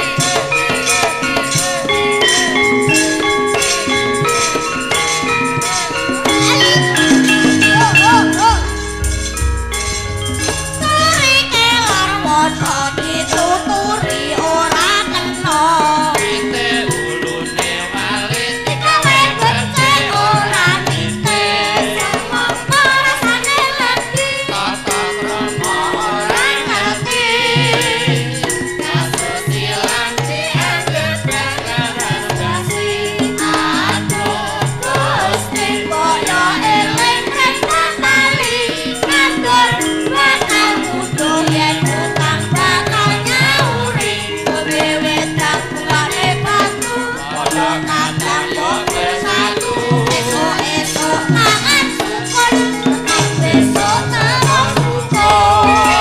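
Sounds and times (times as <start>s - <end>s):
gamelan ensemble playing: 0.0s - 23.9s, 27.6s - 56.0s
singers with vibrato: 0.0s - 56.0s.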